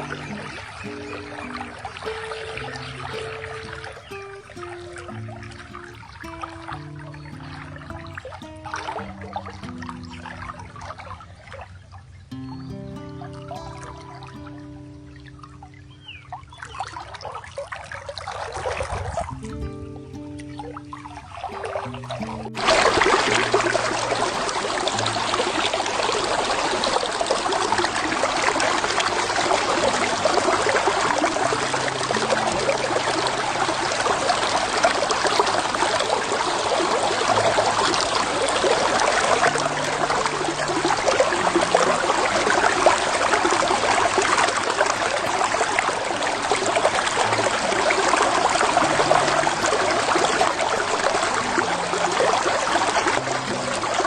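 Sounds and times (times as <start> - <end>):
creek flowing over stones: 0.0 - 54.0.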